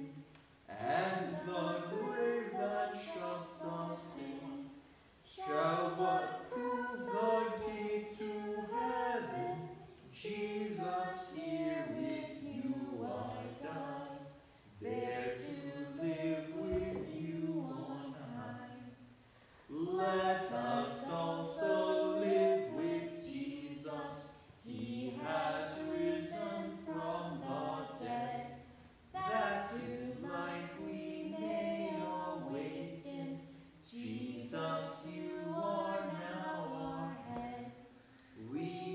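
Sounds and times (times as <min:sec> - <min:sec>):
unaccompanied hymn singing: 0:00.0 - 0:38.9.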